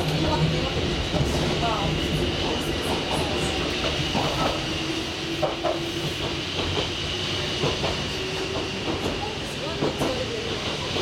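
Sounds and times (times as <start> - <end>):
train hum: 0.0 - 11.0
train wheels rumbling on rails: 0.0 - 11.0.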